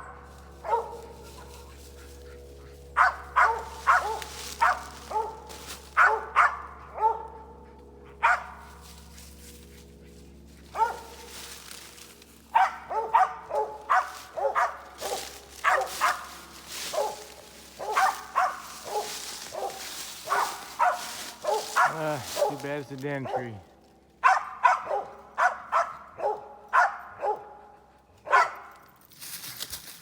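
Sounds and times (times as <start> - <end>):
dog barking: 0.0 - 8.8, 10.7 - 11.3, 12.5 - 23.6, 24.2 - 28.8.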